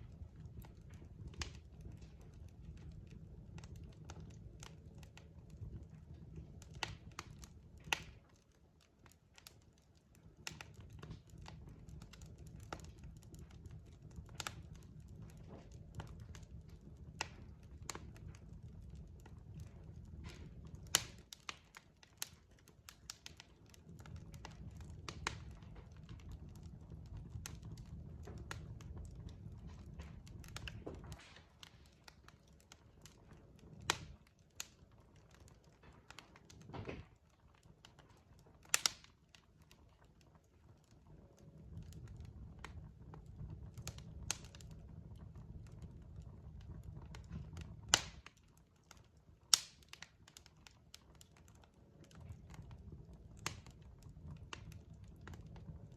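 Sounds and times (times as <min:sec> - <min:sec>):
fire crackling and popping: 0:00.0 - 0:55.9
low fire rumble: 0:00.0 - 0:55.9.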